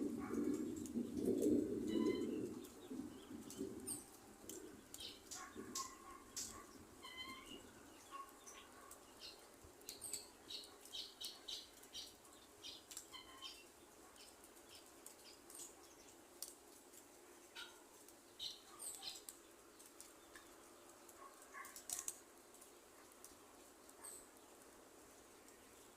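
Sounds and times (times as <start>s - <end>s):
small wood fire crackling: 0.0s - 25.9s.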